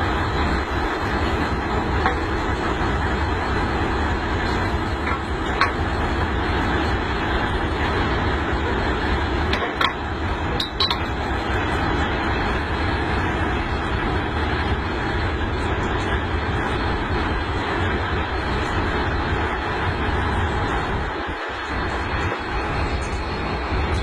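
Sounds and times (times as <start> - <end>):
locomotive rumbling: 0.0 - 24.0.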